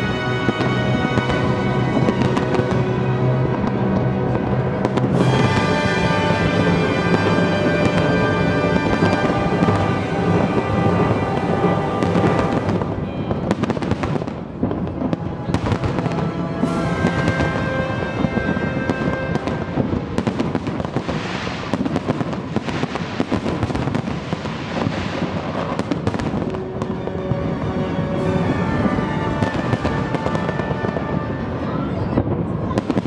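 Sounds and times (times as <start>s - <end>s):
music of held notes: 0.0s - 22.3s, 25.8s - 33.0s
fireworks bangs and crackles: 0.0s - 33.0s.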